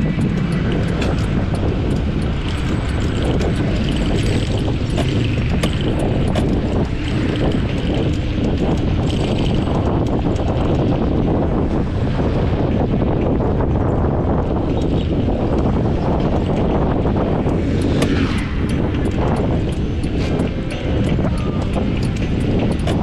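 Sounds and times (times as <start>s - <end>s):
bicycle tyre noise on road: 0.0s - 23.0s
wind buffeting microphone: 0.0s - 23.0s.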